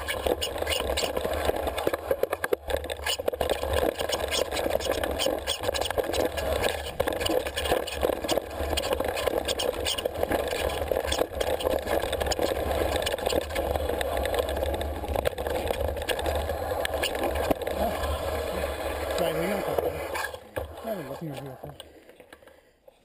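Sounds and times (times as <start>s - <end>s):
bike rattling and knocking: 0.0s - 19.6s
bike rolling on rough trail: 0.0s - 22.5s.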